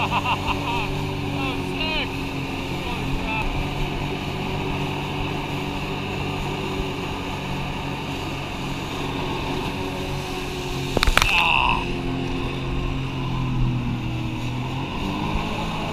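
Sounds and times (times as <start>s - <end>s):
watercraft engine running: 0.0s - 15.9s.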